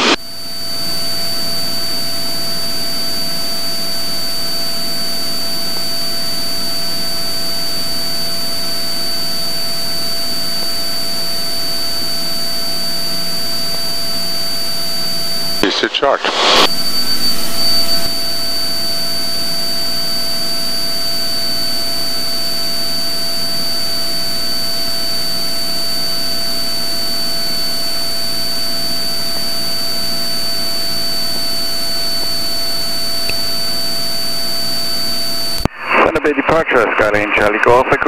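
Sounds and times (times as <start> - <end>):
thin high whine: 0.0 - 38.0.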